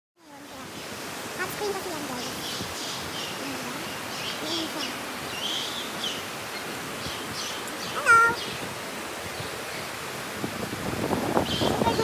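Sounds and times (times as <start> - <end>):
river rushing over rapids: 0.2 - 12.0.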